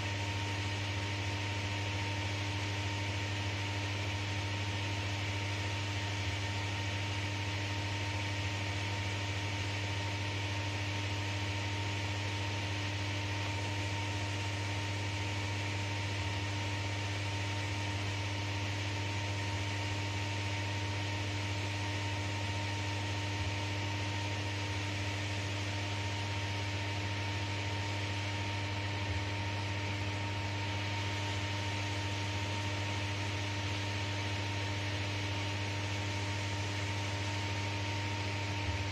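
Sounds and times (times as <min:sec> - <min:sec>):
air conditioning hum and hiss: 0:00.0 - 0:38.9.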